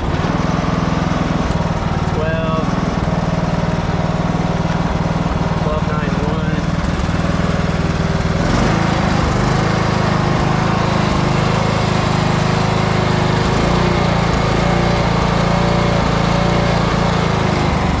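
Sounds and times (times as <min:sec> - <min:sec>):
riding tractor engine running: 0:00.0 - 0:18.0.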